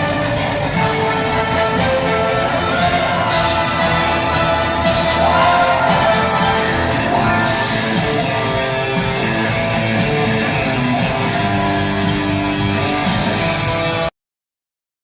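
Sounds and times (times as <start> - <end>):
live rock music with orchestra: 0.0 - 14.1
strummed guitar: 0.0 - 14.1.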